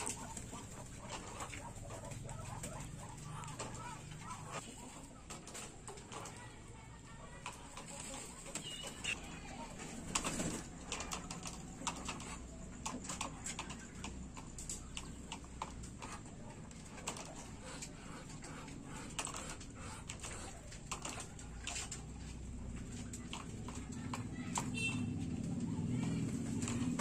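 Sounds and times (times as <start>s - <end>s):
birds clicking on gravel: 0.0s - 27.0s
flurry of wingbeats: 0.0s - 27.0s.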